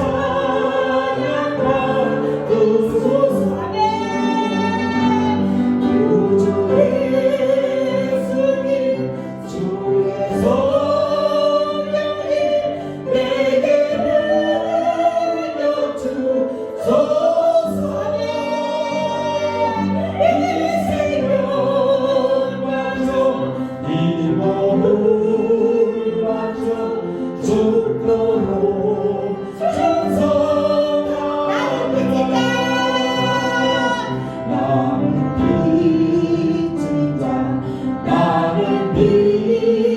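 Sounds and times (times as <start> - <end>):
group singing worship song: 0.0 - 39.9
sustained instrumental accompaniment: 0.0 - 39.9.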